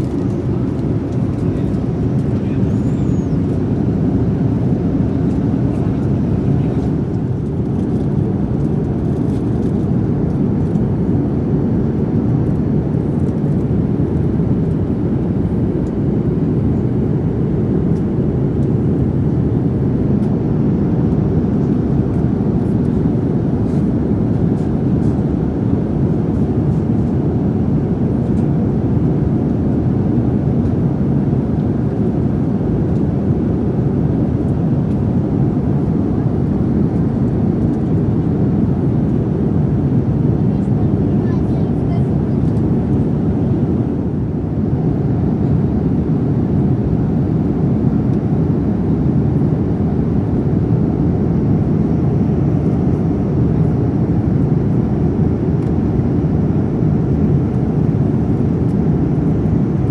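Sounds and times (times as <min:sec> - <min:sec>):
jet cabin engine drone: 0:00.0 - 0:59.9.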